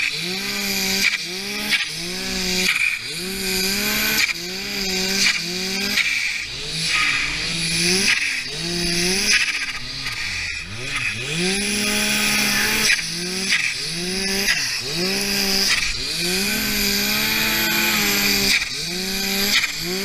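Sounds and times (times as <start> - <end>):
snowmobile engine revving: 0.0 - 20.0.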